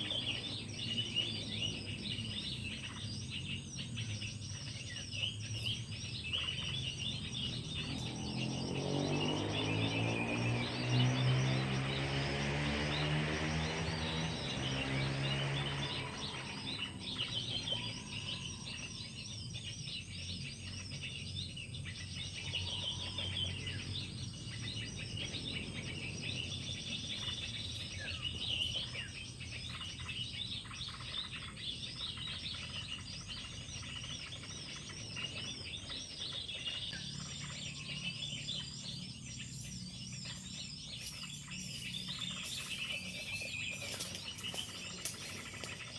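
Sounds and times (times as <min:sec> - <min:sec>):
low engine hum: 0:00.0 - 0:45.9
small birds chirping: 0:00.0 - 0:45.9.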